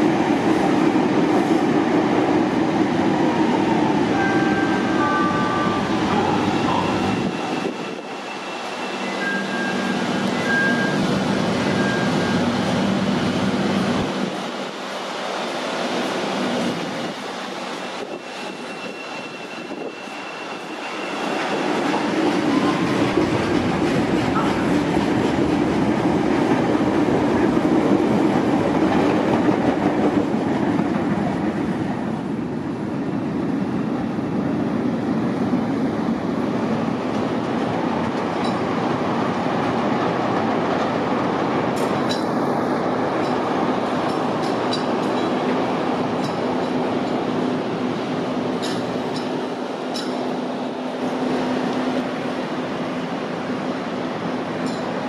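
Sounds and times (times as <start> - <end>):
train rumbling on tracks: 0.0 - 55.0.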